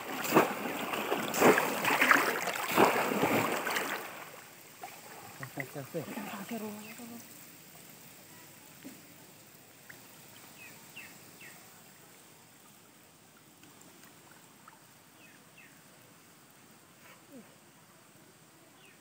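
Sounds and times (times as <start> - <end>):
shallow water hiss: 0.0 - 18.9.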